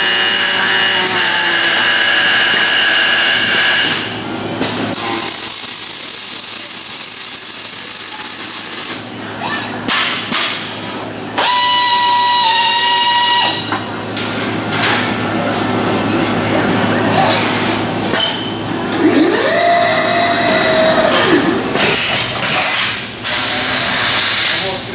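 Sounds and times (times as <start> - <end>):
high machine whine: 0.0 - 9.9, 10.8 - 24.9.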